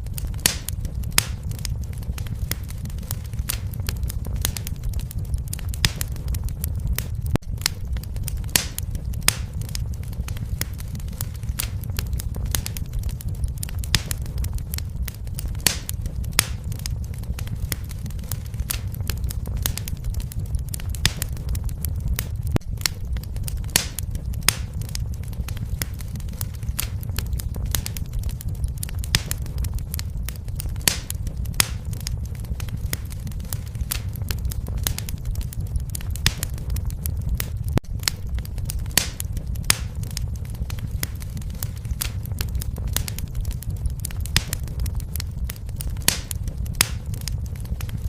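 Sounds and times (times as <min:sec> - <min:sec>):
fire rumbling: 0:00.0 - 0:48.0
logs crackling and popping: 0:00.0 - 0:48.0.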